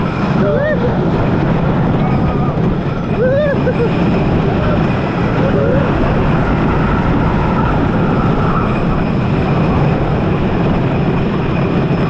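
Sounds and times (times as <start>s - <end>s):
roller coaster wheels rumbling on track: 0.0s - 12.0s.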